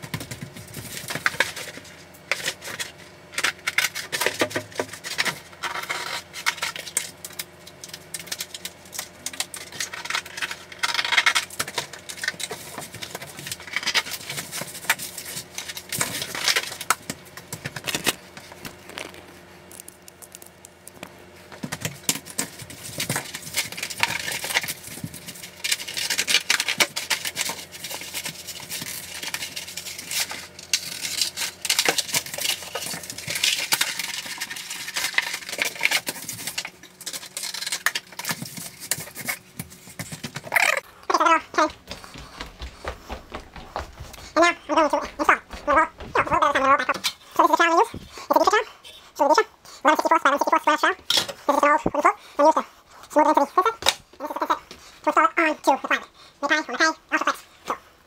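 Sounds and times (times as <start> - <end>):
plastic membrane scraping and crinkling: 0.0 - 21.1, 21.7 - 48.6
faint steady hum: 0.0 - 58.0.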